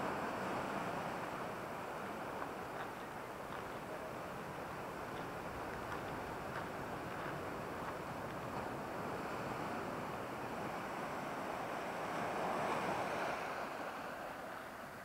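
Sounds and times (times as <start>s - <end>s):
surf on rocky shore: 0.0s - 15.0s.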